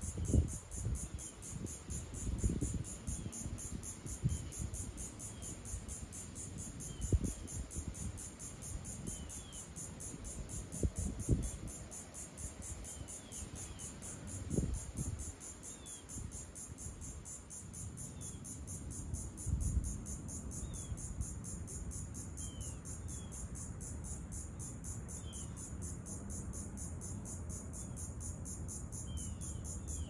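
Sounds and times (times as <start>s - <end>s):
insects pulsing chorus: 0.0s - 30.0s.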